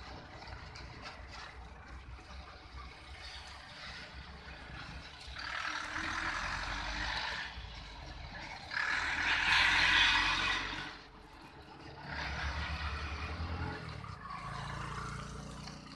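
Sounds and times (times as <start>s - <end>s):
truck engine rumble: 0.0s - 15.9s.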